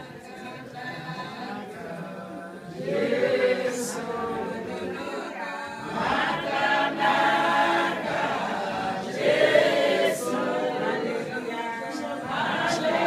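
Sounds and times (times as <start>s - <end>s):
group singing gospel unaccompanied: 0.0s - 13.0s.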